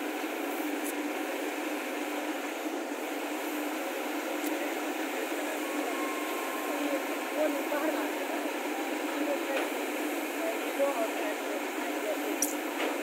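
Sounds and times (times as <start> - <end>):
machinery engine drone: 0.0 - 13.0.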